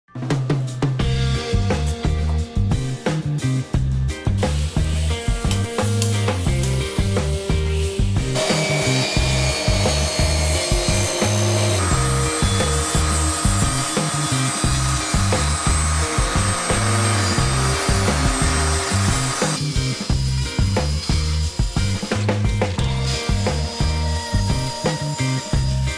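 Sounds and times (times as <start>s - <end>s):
background music with bass line: 0.1s - 25.9s.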